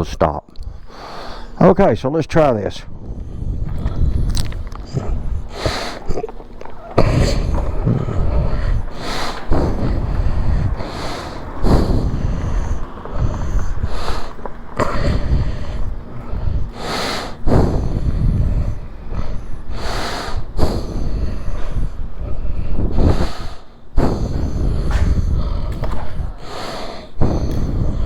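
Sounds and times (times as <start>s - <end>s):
steady low rumble: 0.0s - 28.0s
person breathing heavily: 0.5s - 1.9s, 2.8s - 28.0s.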